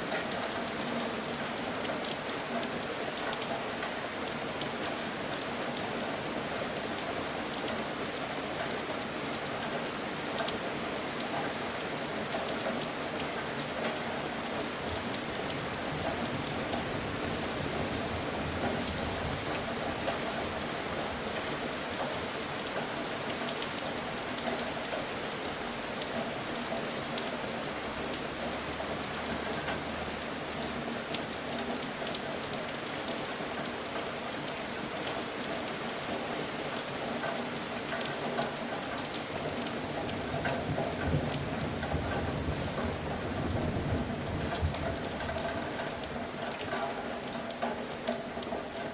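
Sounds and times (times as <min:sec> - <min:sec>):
rain patter on a surface: 0:00.0 - 0:48.9.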